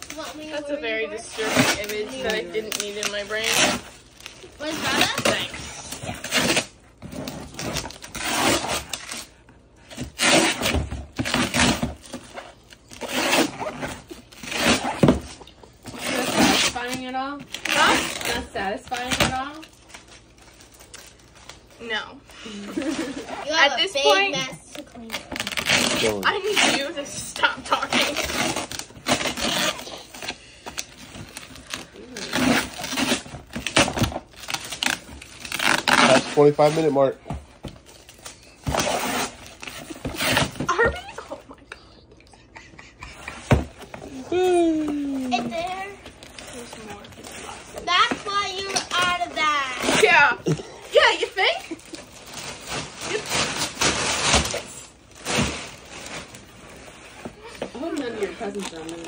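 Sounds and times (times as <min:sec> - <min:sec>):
tape and cardboard tearing: 0:00.0 - 0:21.6, 0:22.8 - 0:41.3, 0:43.2 - 0:56.5.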